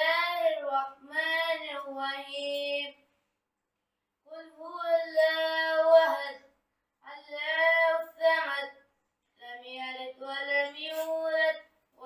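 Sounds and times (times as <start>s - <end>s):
boy chanting melodic recitation: 0.0s - 3.0s, 4.3s - 12.0s.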